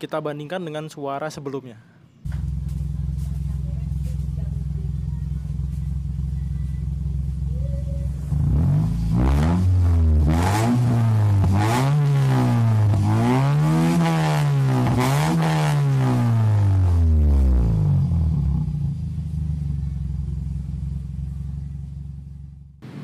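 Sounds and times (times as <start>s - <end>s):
car engine idling: 2.2s - 23.0s
car engine revving: 2.3s - 22.9s.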